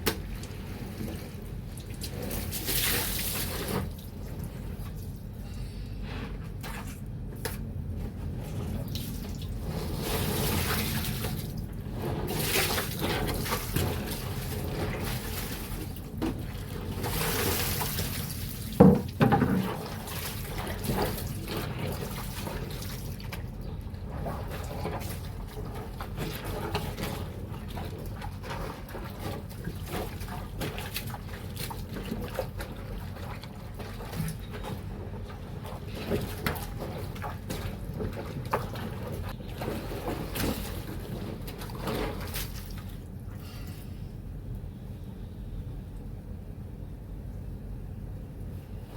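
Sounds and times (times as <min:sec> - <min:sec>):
water sloshing and splashing: 0:00.0 - 0:05.4, 0:06.2 - 0:43.6.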